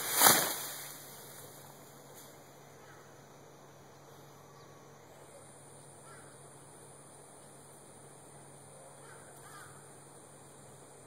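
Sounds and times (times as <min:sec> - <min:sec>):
distant bird calls: 0:00.0 - 0:07.0, 0:08.2 - 0:10.8
low steady hum: 0:00.0 - 0:11.0.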